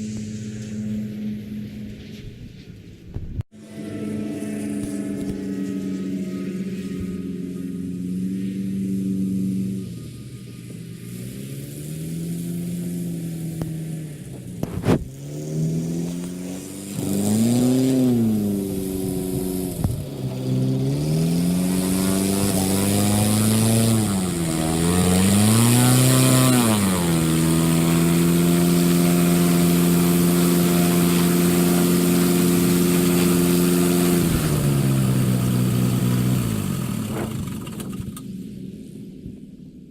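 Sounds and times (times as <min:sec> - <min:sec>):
engine revving: 0:03.5 - 0:39.4.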